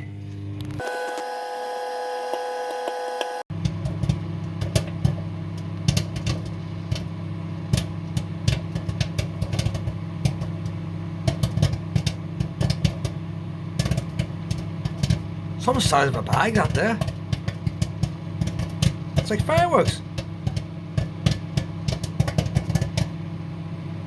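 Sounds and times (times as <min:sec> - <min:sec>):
microwave oven hum: 0:00.0 - 0:24.0
popcorn popping: 0:00.6 - 0:24.0.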